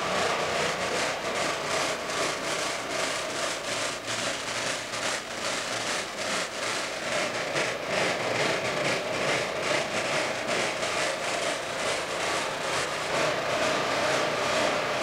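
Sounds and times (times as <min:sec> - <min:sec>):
steady rumbling noise: 0:00.0 - 0:15.0.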